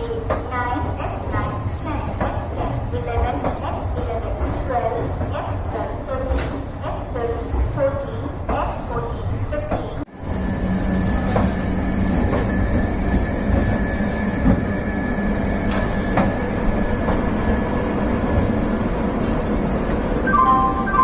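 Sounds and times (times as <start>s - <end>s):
electric train rumbling on track: 0.0s - 21.0s.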